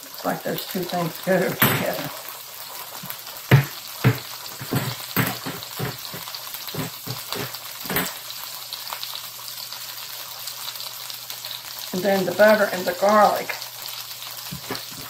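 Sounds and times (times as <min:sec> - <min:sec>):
butter and garlic sizzling: 0:00.0 - 0:15.0.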